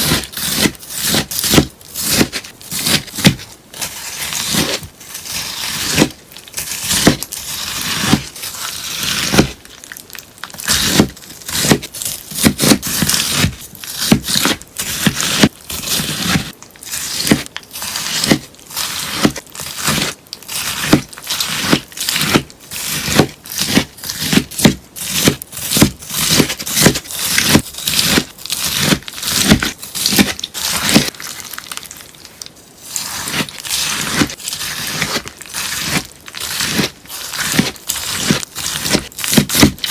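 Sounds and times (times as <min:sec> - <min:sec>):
sponge being cut crunchily: 0:00.0 - 0:09.7, 0:10.6 - 0:31.5, 0:32.8 - 0:39.9.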